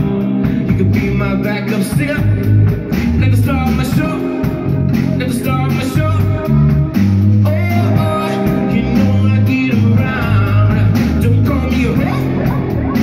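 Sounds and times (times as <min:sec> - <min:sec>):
electric guitar: 0:00.0 - 0:13.0
low bass notes: 0:00.0 - 0:13.0
person singing: 0:00.0 - 0:13.0.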